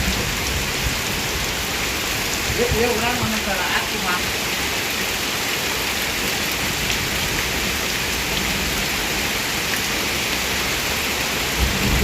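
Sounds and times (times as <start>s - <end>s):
heavy rain hissing on surfaces: 0.0s - 12.0s.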